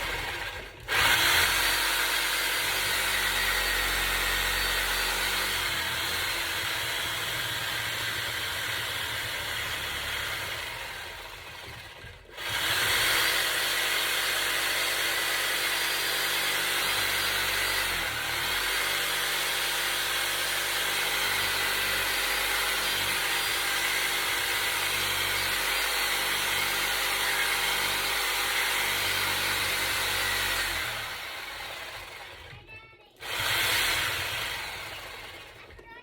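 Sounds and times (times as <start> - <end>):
power tool motor running: 0.0 - 32.6, 33.2 - 35.8.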